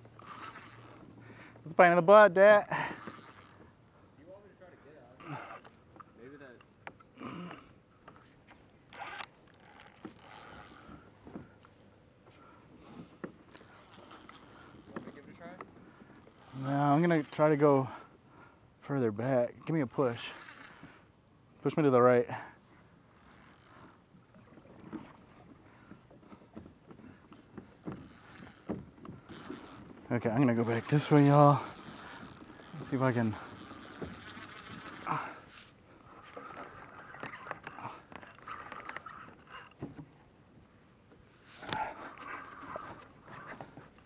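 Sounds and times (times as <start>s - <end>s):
kayak fittings clicking: 0.0s - 1.8s, 2.6s - 3.8s, 5.2s - 11.8s, 12.9s - 17.6s, 19.5s - 21.1s, 23.0s - 40.4s, 41.6s - 44.0s.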